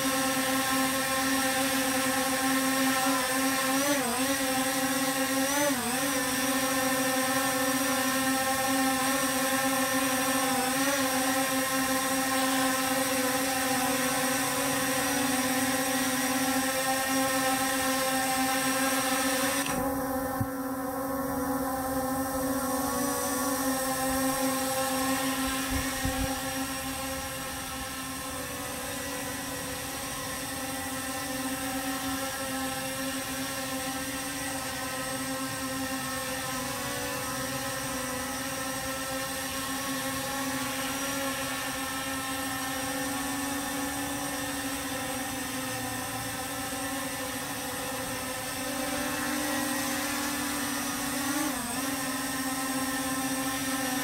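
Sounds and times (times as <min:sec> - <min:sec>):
drone propellers whining: 0:00.0 - 0:54.0.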